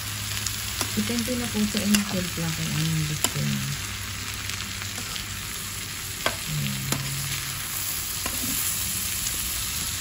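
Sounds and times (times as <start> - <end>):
vegetables sizzling in metal pan: 0.0 - 10.0.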